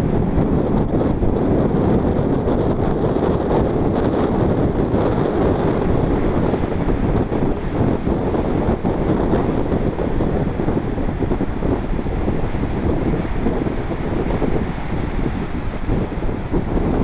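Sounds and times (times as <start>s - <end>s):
ocean waves washing ashore: 0.0s - 17.0s
wind buffeting microphone: 0.0s - 17.0s.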